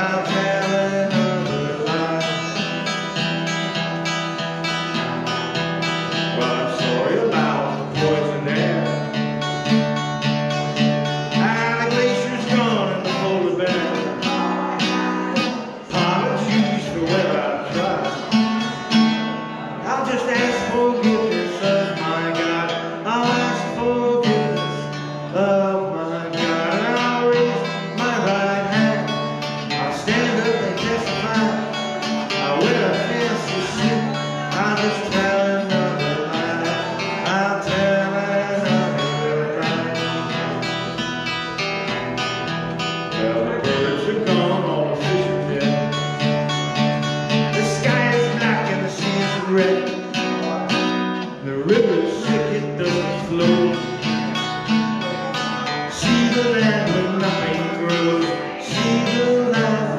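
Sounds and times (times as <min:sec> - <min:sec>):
country guitar strumming: 0:00.0 - 0:59.9.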